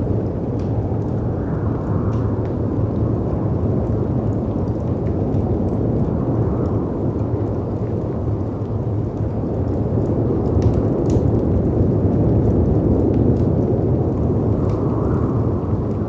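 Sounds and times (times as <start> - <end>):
storm wind rumbling: 0.0 - 16.0
wood fire crackling: 0.0 - 16.0.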